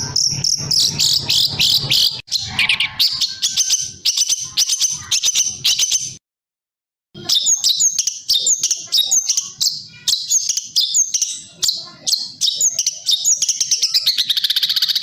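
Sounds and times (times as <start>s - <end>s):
songbird chirping and trilling: 0.0s - 6.2s, 7.2s - 15.0s.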